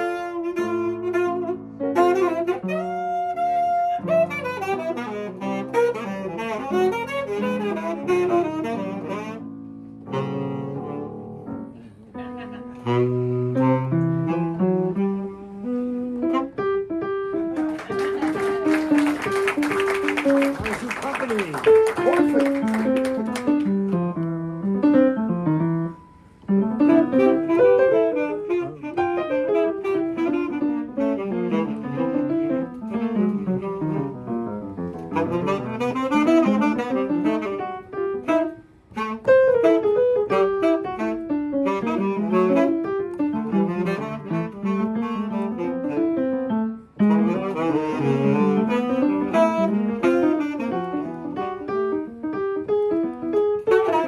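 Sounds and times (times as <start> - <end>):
saxophone playing bebop: 0.0 - 25.1, 25.7 - 54.0
piano accompaniment: 0.0 - 54.0.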